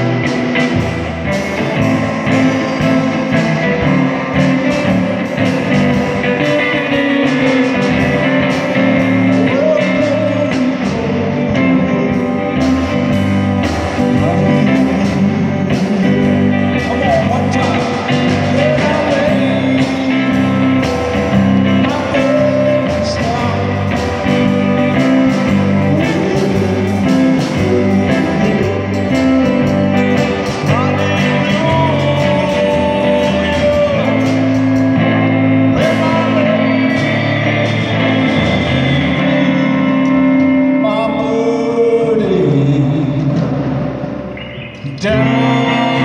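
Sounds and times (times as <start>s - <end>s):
amplified electric guitar: 0.0s - 46.0s
man singing into a microphone: 1.4s - 13.2s, 13.9s - 43.7s, 44.8s - 46.0s.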